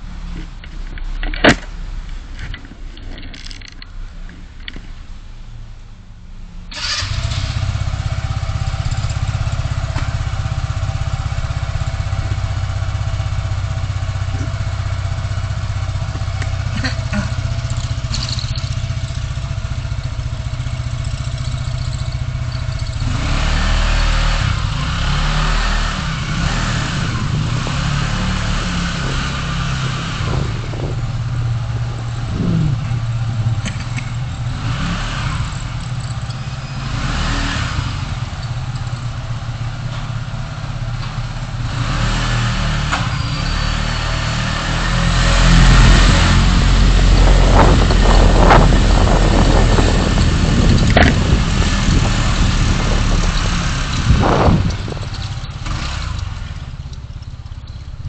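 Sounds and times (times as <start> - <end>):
car engine and road rumble: 0.0 - 58.0
traffic noise: 0.0 - 58.0.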